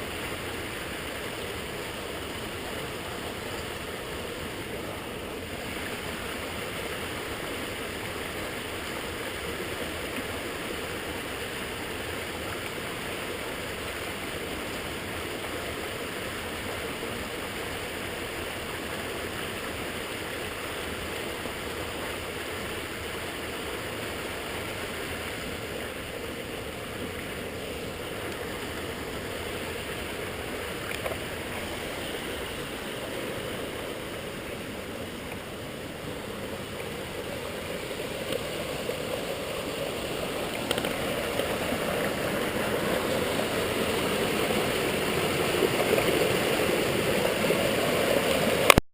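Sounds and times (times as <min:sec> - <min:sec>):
rushing water: 0:00.0 - 0:48.8.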